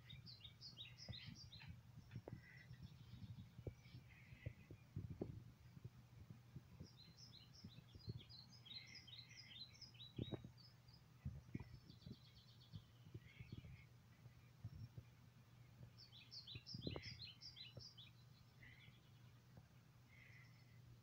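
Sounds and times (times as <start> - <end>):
faint birdsong through laptop speaker: 0.0 - 21.0
soft low thumps: 0.3 - 8.9, 9.5 - 17.9.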